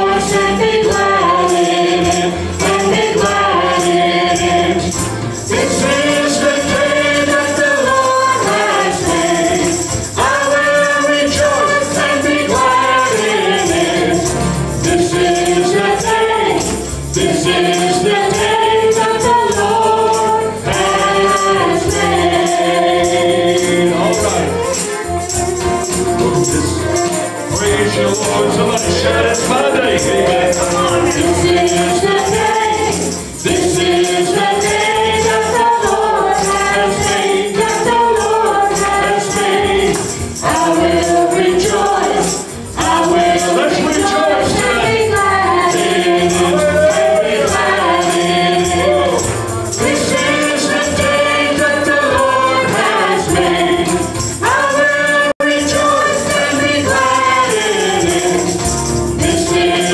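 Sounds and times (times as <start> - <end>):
accompanying music with beat: 0.0 - 59.9
group singing praise song: 0.0 - 59.9.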